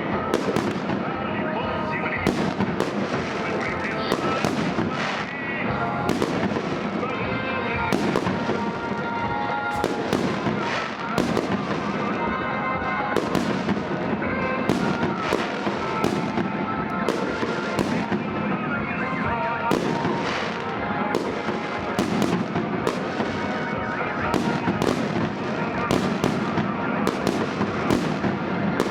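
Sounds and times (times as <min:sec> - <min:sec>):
continuous din: 0:00.0 - 0:28.9
fireworks bursting: 0:00.0 - 0:28.9
music playing: 0:00.0 - 0:28.9.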